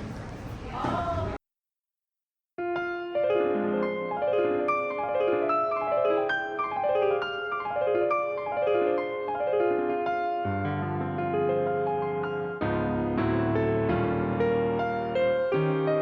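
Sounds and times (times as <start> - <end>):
gentle piano arpeggios: 2.6 - 16.0.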